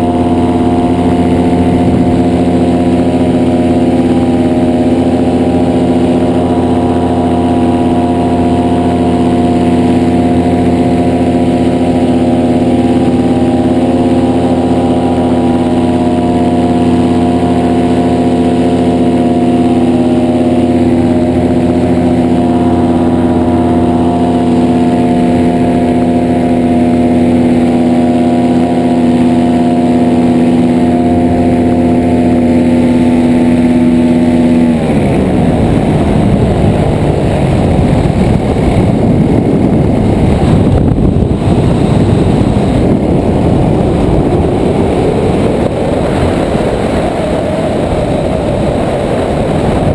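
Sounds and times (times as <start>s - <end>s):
paramotor engine drone: 0.0s - 49.9s.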